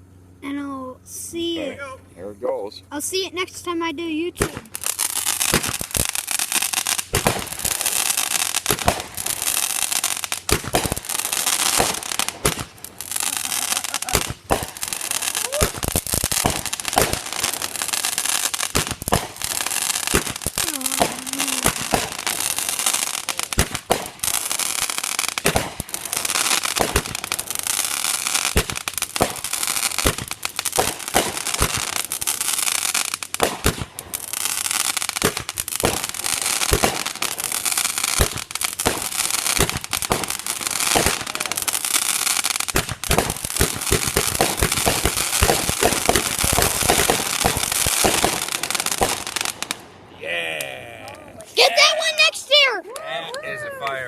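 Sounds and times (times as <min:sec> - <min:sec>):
fireworks crackling: 0:02.7 - 0:54.0
fireworks bangs: 0:04.3 - 0:53.8.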